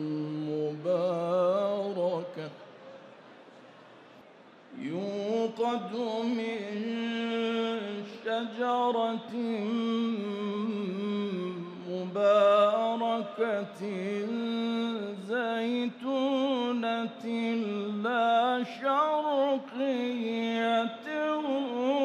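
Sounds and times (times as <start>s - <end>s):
man chanting recitation: 0.0s - 2.7s, 4.7s - 22.0s.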